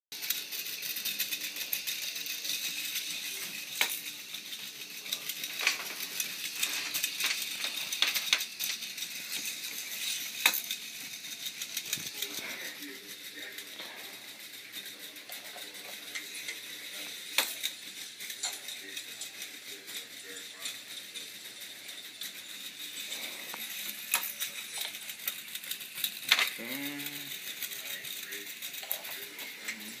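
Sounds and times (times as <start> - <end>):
plastic roller coaster clatter: 0.2 - 30.0.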